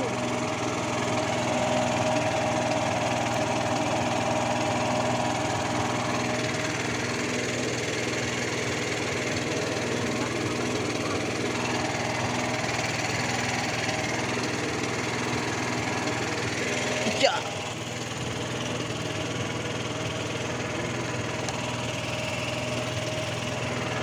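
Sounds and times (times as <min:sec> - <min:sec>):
small generator engine running: 0:00.0 - 0:24.0.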